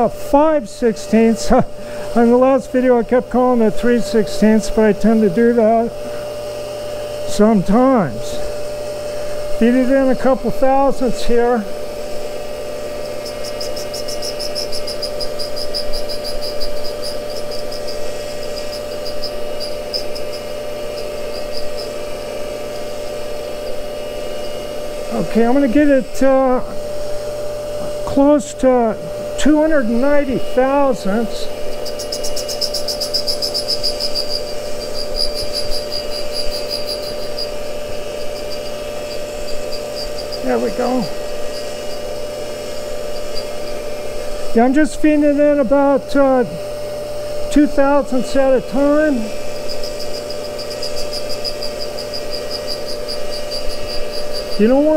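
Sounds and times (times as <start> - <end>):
cutter ticking against grinding wheel: 0.0 - 54.9
grinder humming: 0.0 - 54.9.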